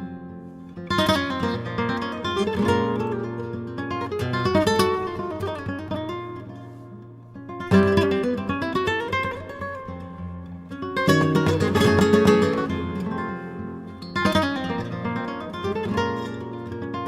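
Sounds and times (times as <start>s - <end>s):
flamenco acoustic guitar: 0.0s - 17.0s.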